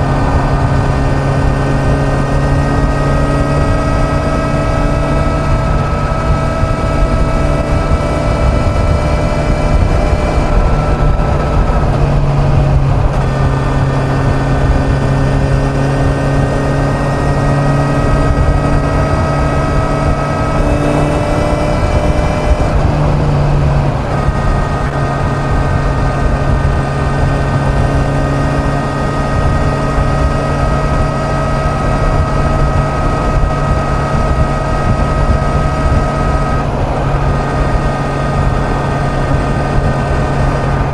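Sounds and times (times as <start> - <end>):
motorcycle engine at speed: 0.0 - 40.9
wind rush: 0.0 - 40.9.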